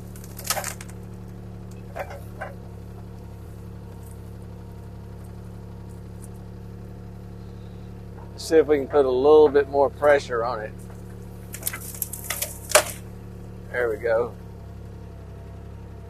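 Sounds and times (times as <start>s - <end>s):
wood cracking: 0.0s - 7.3s, 7.9s - 13.9s
excavator diesel engine running: 0.0s - 16.0s.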